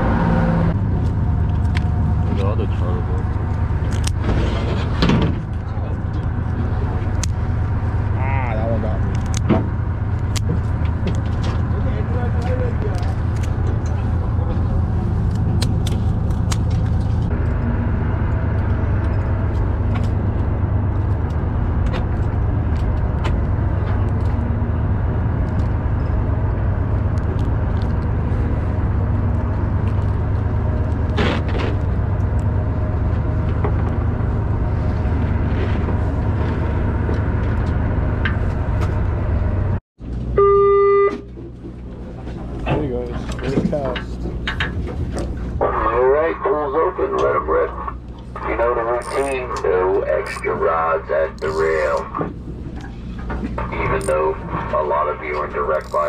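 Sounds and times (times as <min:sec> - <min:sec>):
boat engine rumble: 0:00.0 - 0:56.0
wind: 0:00.0 - 0:56.0.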